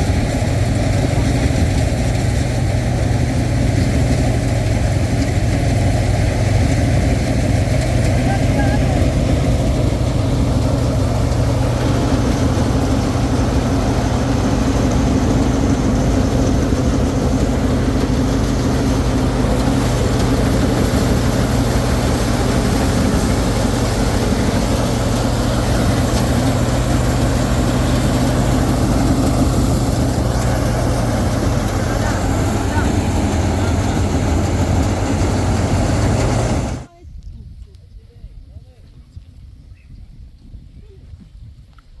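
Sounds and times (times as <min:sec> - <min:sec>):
combine harvester engine humming: 0:00.0 - 0:36.9.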